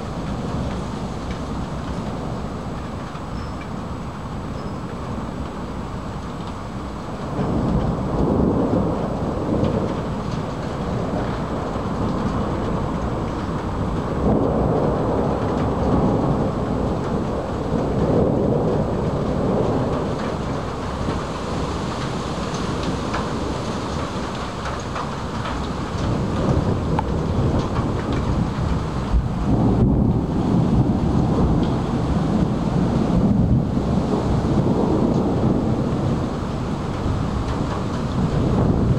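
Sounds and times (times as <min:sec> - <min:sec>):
steady rain: 0:00.0 - 0:38.9
rolling thunder: 0:07.1 - 0:38.9.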